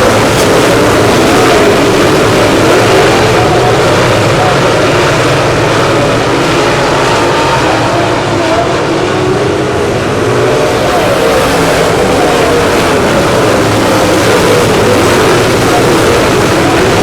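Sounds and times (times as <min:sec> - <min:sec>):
race car engines running hard: 0:00.0 - 0:17.0.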